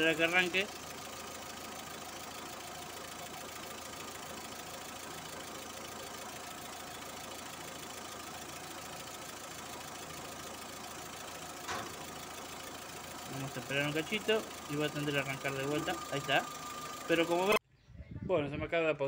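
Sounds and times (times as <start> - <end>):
car engine idling: 0.0 - 17.6.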